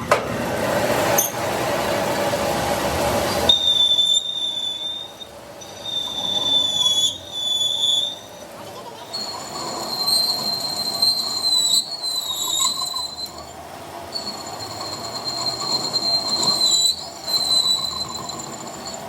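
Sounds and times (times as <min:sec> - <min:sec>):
rough grinding noise: 0:00.1 - 0:19.0
cutting tool squealing on steel: 0:03.3 - 0:19.0.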